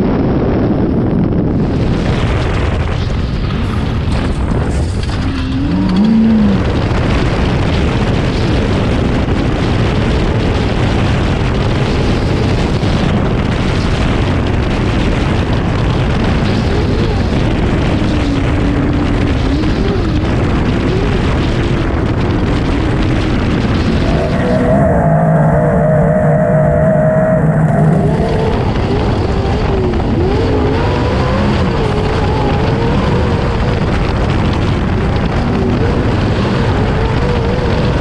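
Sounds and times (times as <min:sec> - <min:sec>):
engine rumble: 0:00.0 - 0:38.0
wind noise: 0:00.0 - 0:38.0.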